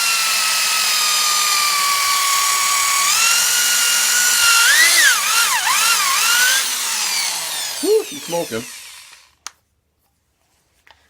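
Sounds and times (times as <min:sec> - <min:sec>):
electric drill whining under load: 0:00.0 - 0:09.4.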